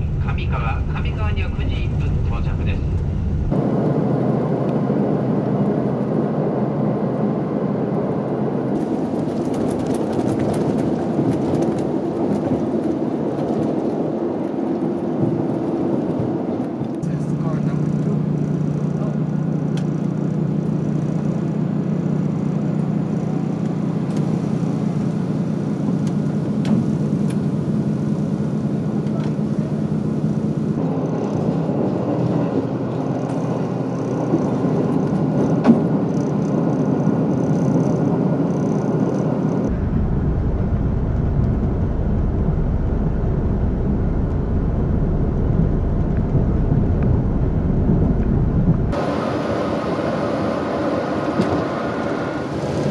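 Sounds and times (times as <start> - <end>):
deep train rumble: 0.0 - 52.9
railcar engine hum: 0.0 - 52.9
train running on rails: 0.0 - 52.9.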